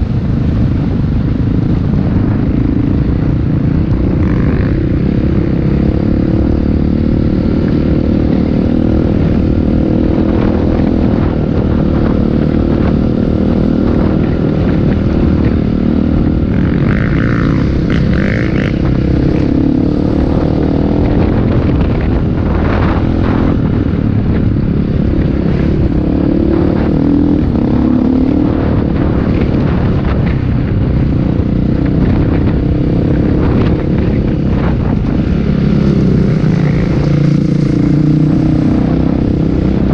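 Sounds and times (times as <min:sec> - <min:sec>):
motocross motorcycle engines revving: 0:00.0 - 0:39.9.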